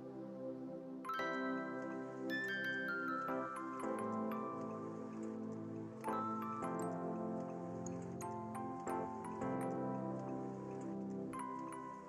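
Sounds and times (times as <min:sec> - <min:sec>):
instrumental music with held chords: 0:00.0 - 0:12.0.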